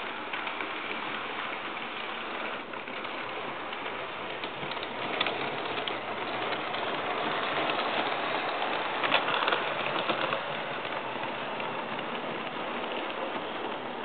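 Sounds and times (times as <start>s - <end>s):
model train wheels rattling: 0.0s - 14.0s.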